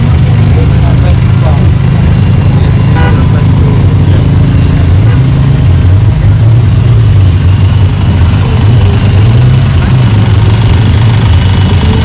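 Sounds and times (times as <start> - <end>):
off-road vehicle engine idling: 0.0 - 12.0.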